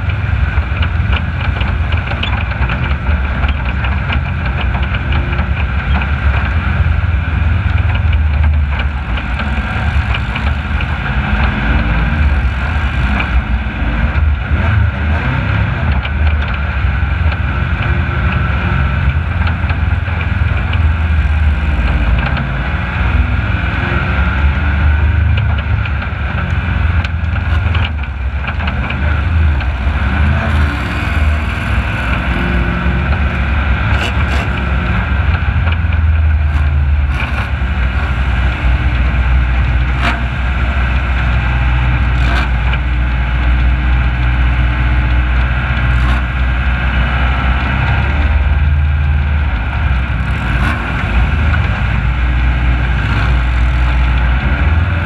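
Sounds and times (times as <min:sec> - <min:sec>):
racing engine running: 0:00.0 - 0:55.0.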